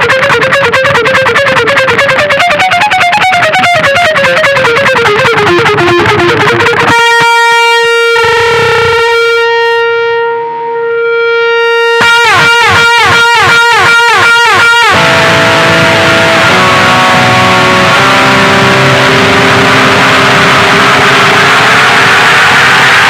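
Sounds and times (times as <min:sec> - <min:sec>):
electric guitar with flanger and delay: 0:00.0 - 0:23.0.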